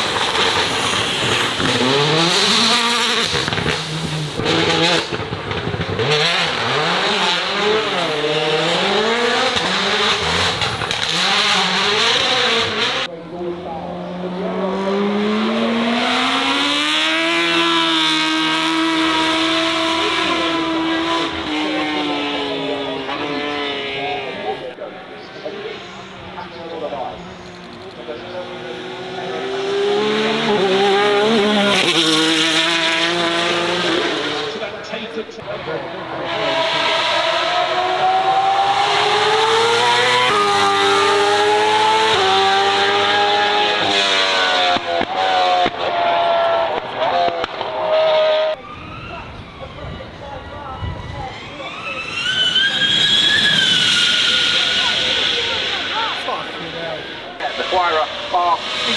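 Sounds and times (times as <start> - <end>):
racing car engine accelerating: 0.0 - 49.0, 51.3 - 58.9.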